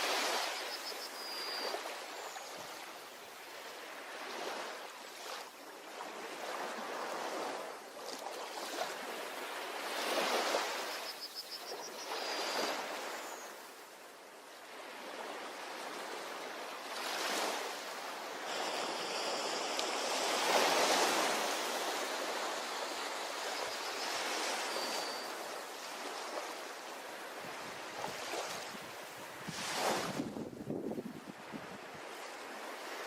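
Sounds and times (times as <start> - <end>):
ocean waves breaking on shore: 0.0 - 33.0.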